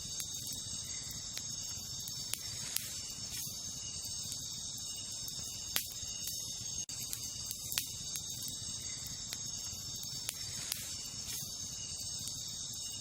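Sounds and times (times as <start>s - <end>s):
campfire crackling: 0.0s - 13.0s
crickets chirping: 0.0s - 13.0s.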